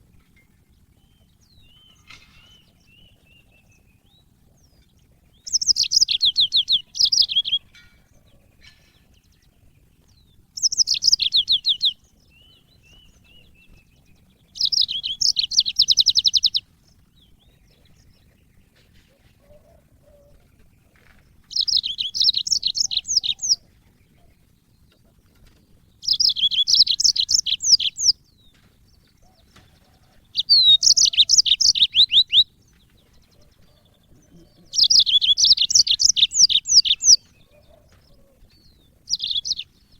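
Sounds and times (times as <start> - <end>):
canary singing trilled phrases: 0.0 - 39.9.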